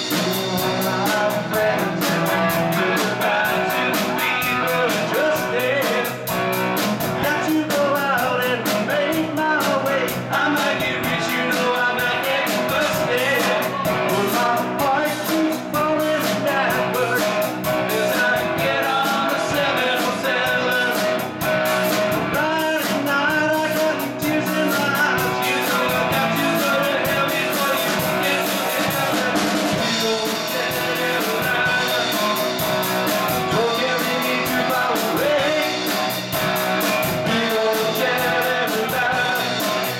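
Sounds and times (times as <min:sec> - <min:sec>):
live rock band playing: 0:00.0 - 0:39.9
man singing: 0:00.0 - 0:39.9.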